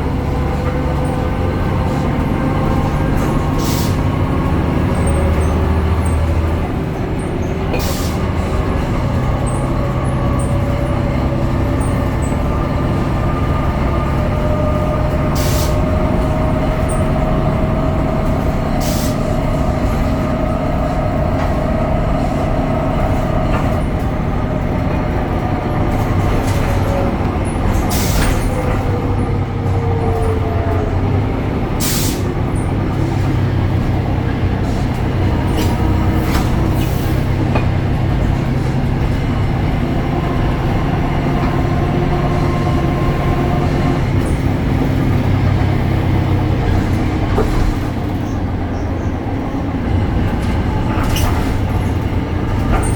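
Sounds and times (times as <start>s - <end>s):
bus diesel engine whine: 0.0s - 52.9s.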